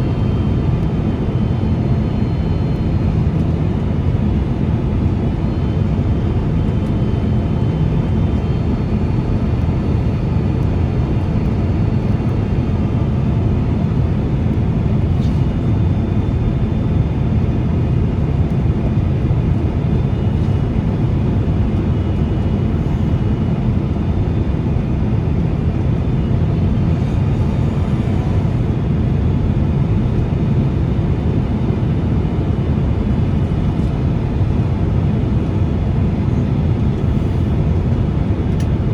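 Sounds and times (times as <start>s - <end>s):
airliner engine drone: 0.0s - 38.9s.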